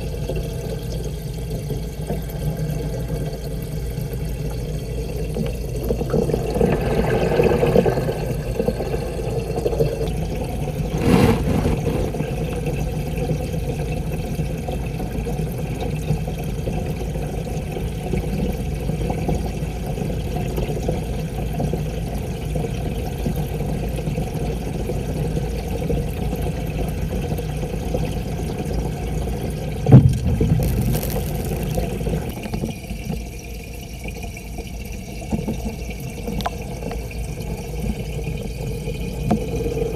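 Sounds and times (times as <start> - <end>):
aquarium filter humming: 0.0 - 39.9.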